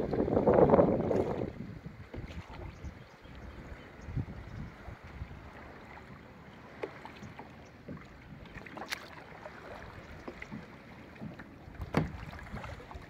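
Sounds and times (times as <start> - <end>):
kayak paddle splashing water: 0.0 - 13.0.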